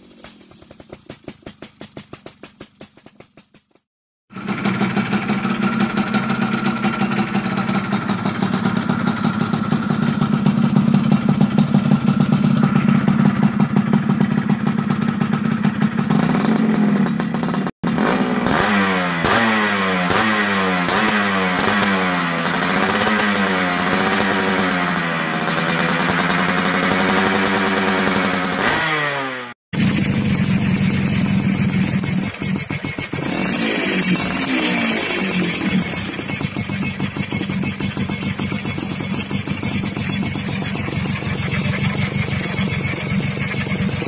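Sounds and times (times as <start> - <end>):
engine revving: 4.3 - 44.0
two-stroke engine idling: 4.3 - 44.0.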